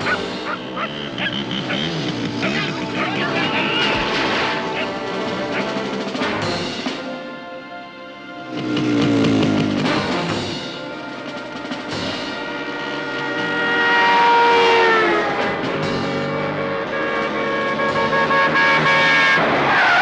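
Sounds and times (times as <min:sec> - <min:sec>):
motorcycle engine: 0:00.0 - 0:07.1, 0:08.3 - 0:20.0
orchestral action music: 0:00.0 - 0:20.0
timpani and drums: 0:01.8 - 0:07.4, 0:08.4 - 0:19.6.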